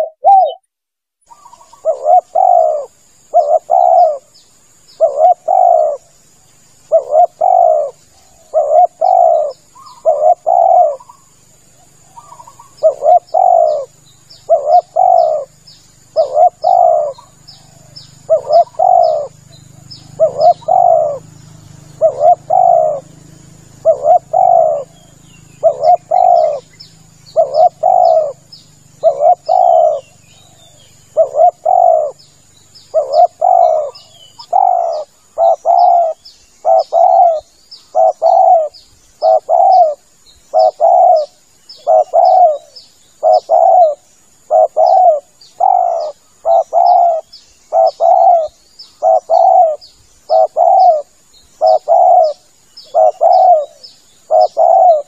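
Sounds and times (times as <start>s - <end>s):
dove cooing: 0.0s - 0.6s, 1.3s - 6.1s, 6.9s - 55.0s
faint high chirps: 0.0s - 55.0s.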